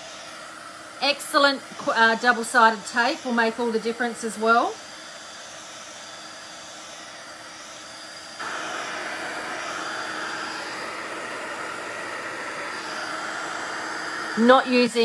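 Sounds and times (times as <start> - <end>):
heat gun blowing air: 0.0 - 15.0.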